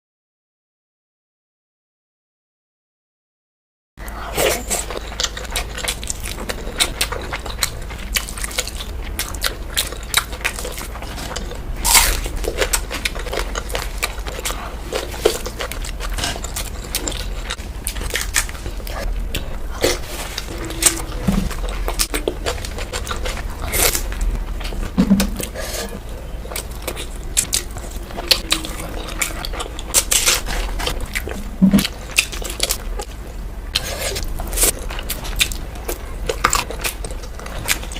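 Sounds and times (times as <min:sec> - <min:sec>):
chewing and crunching: 0:04.0 - 0:37.9
low hum: 0:04.0 - 0:37.9.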